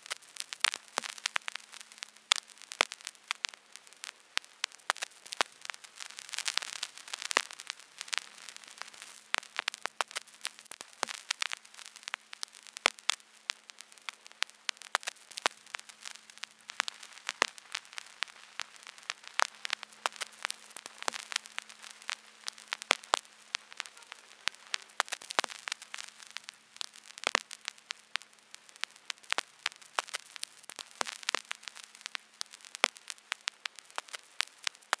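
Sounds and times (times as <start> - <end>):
vinyl crackles and pops: 0.0 - 35.0
vinyl record hiss: 0.0 - 35.0.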